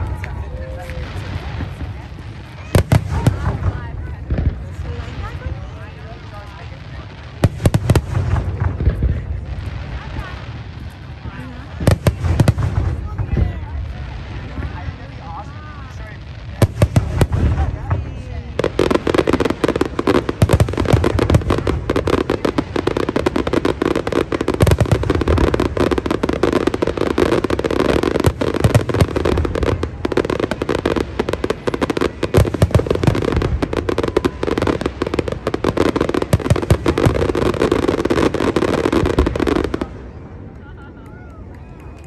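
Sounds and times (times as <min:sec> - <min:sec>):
heavy fireworks booms: 0:00.0 - 0:40.5
fireworks bursting and crackling: 0:00.0 - 0:42.0.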